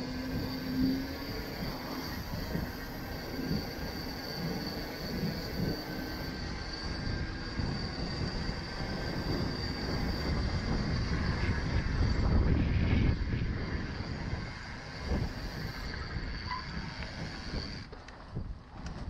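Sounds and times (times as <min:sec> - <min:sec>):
faint high whine: 0:00.0 - 0:17.9
wind rumbling on microphone: 0:00.0 - 0:19.0.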